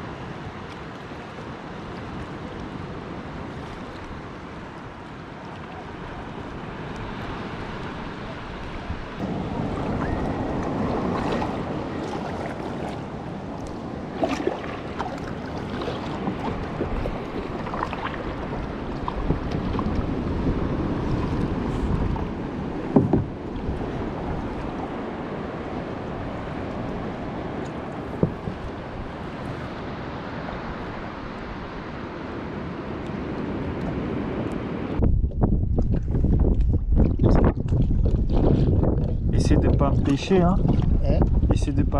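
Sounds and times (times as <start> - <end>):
water rushing and lapping on hull: 0.0 - 41.9
paddle splashes and knocks: 0.3 - 31.0, 35.0 - 41.6
wind on microphone: 5.8 - 41.9.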